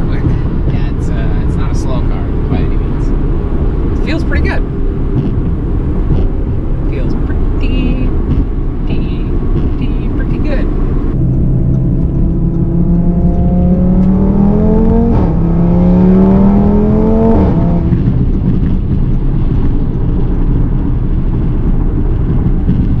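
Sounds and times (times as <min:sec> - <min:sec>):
car engine accelerating: 0:00.0 - 0:23.0
road noise: 0:00.0 - 0:23.0.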